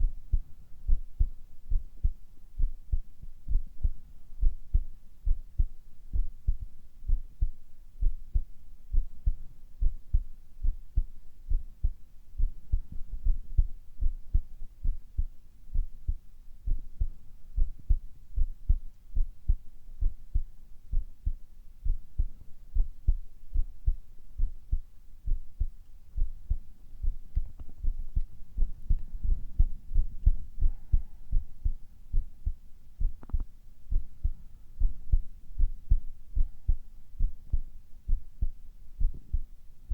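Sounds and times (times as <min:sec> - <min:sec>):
heartbeat low muffled thumps: 0:00.0 - 0:39.9.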